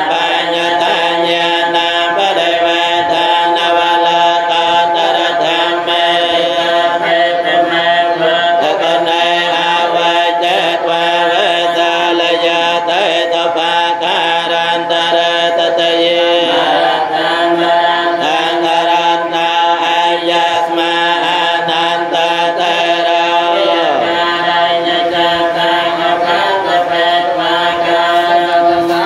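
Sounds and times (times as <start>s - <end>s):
voices chanting together: 0.0s - 29.0s.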